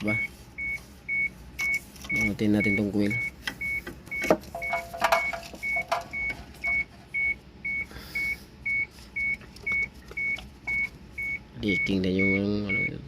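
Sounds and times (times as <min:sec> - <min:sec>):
electronic warning beeps: 0:00.0 - 0:13.0.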